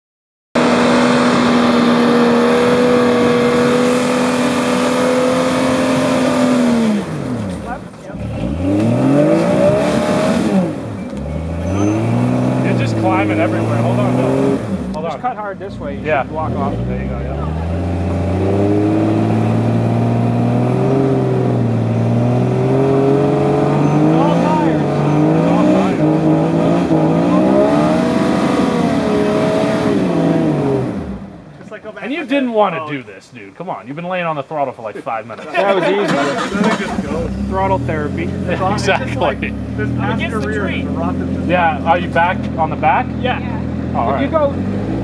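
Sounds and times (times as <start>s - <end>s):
loud car engine running: 0.6s - 31.5s, 35.6s - 45.0s.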